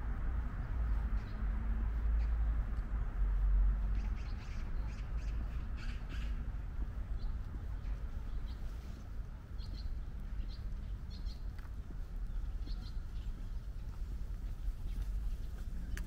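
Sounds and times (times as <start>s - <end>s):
steady low rumble: 0.0s - 16.0s
small birds chirping: 0.4s - 16.0s.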